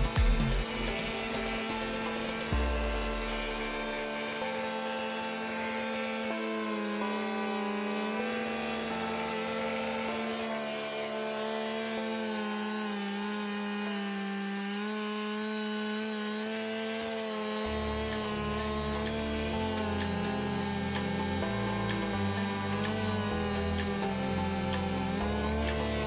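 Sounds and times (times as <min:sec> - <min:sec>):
background music: 0:00.0 - 0:14.8, 0:17.1 - 0:26.0
chainsaw cutting log: 0:00.0 - 0:26.0.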